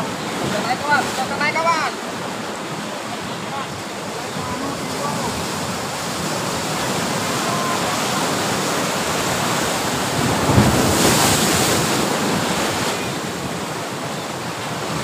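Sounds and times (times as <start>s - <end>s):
waves washing in: 0.0s - 15.0s.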